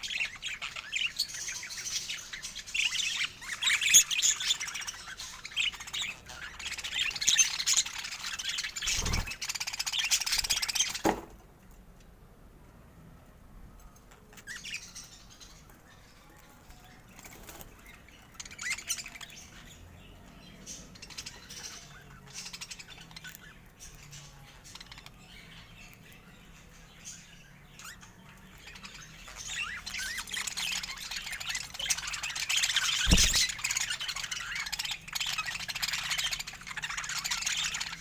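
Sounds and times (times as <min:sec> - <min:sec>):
budgerigars chirping and chattering: 0:00.0 - 0:11.1, 0:14.3 - 0:38.0.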